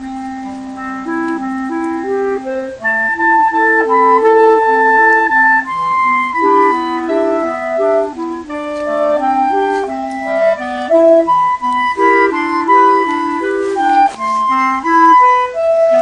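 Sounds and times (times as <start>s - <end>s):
clarinets playing in harmony: 0.0s - 16.0s.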